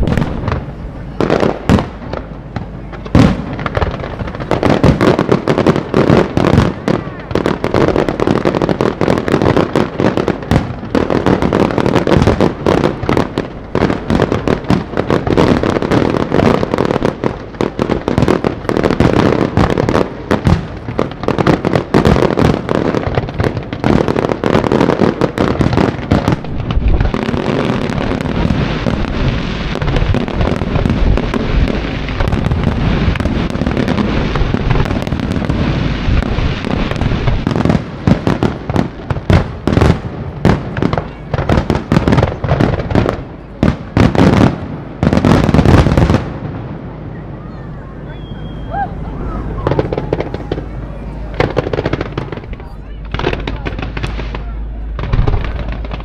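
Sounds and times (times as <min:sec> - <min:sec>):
fireworks bursts and bangs: 0:00.0 - 0:56.0.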